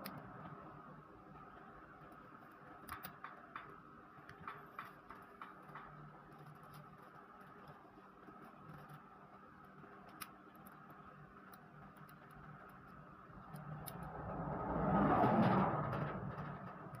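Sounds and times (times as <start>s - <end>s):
faint steady hum: 0.0s - 15.2s.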